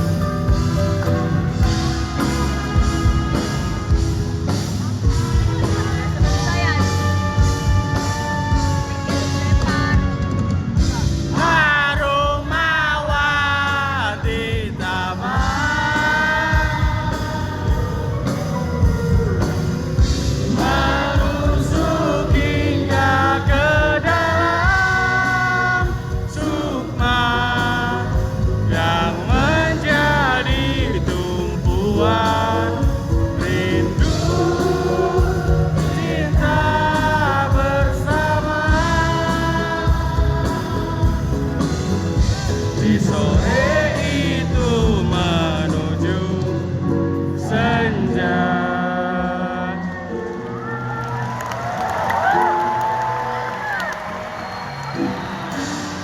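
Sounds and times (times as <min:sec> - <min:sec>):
person singing: 0:00.0 - 0:50.6
band playing live: 0:00.0 - 0:56.0.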